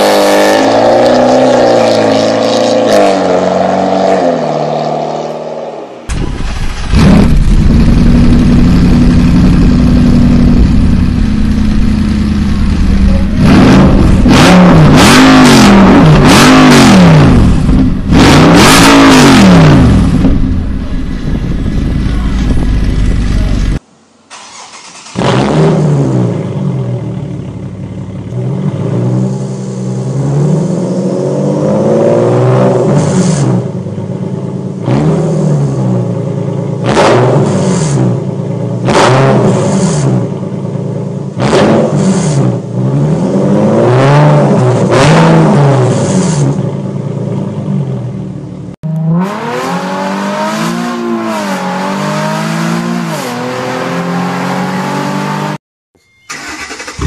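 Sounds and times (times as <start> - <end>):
car engine revving: 0.0 - 48.1, 48.8 - 55.6.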